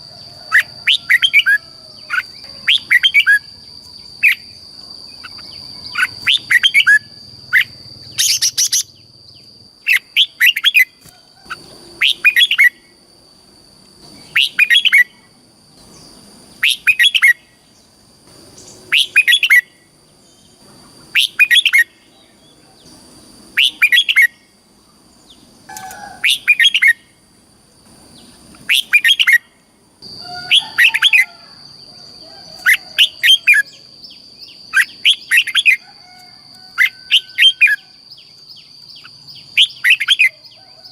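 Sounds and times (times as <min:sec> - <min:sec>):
bulbul singing: 0:00.0 - 0:12.9, 0:14.0 - 0:24.6, 0:28.1 - 0:31.4, 0:32.3 - 0:35.8, 0:36.7 - 0:40.6.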